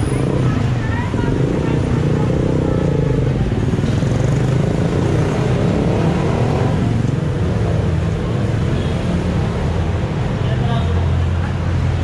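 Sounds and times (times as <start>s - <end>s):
cars and motorcycles passing: 0.0s - 12.0s.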